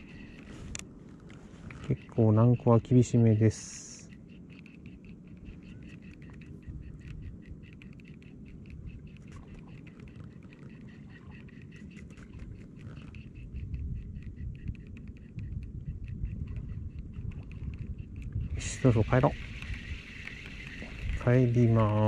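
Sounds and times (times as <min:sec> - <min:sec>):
fishing reel ticking: 0:00.0 - 0:00.8, 0:01.9 - 0:22.0.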